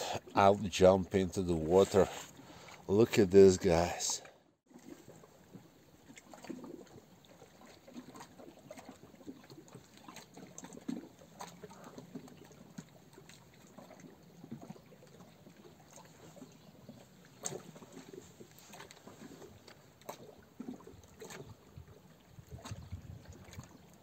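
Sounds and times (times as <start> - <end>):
water lapping at stone quay: 0.0 - 24.0.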